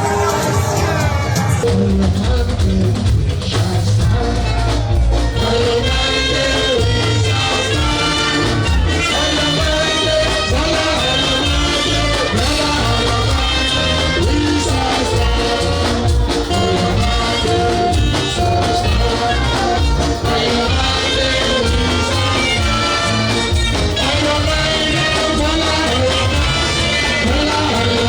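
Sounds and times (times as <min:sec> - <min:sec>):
music with singing and bass beat: 0:00.0 - 0:28.0.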